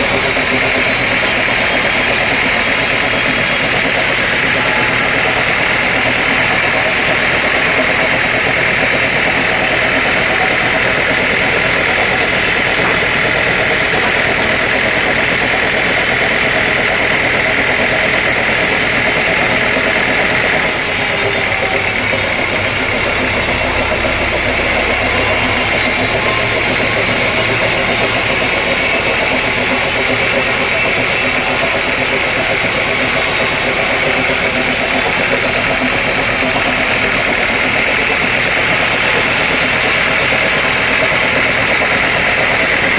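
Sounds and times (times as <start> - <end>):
sawmill machinery droning: 0.0 - 42.9.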